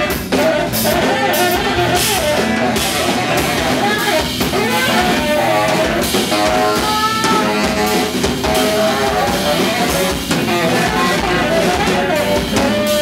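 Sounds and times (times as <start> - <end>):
drum kit: 0.0 - 13.0
electric bass: 0.0 - 13.0
electric guitar: 0.0 - 13.0
saxophone: 0.0 - 13.0.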